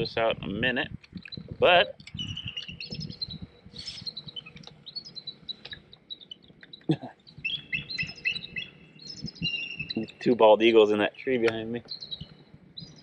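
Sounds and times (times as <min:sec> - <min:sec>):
birds chirping and chattering: 0:00.0 - 0:13.0.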